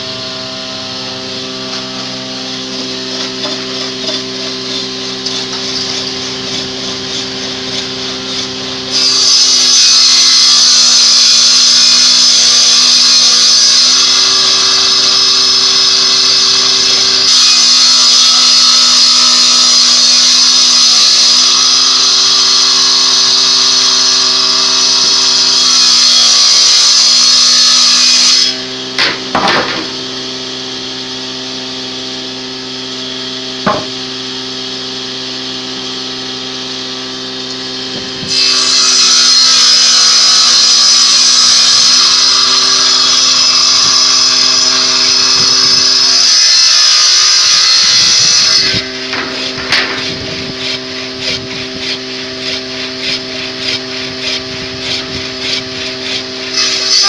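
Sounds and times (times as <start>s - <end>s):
woodworking machine motor hum: 0.0s - 25.9s, 28.5s - 57.0s
saw cutting wood with hissing rasp: 1.5s - 30.6s, 37.6s - 57.0s.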